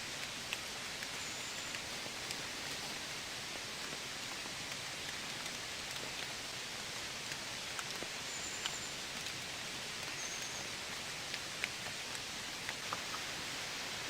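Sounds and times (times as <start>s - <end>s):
rain falling: 0.0s - 14.0s
raindrops ticking close by: 0.0s - 14.0s.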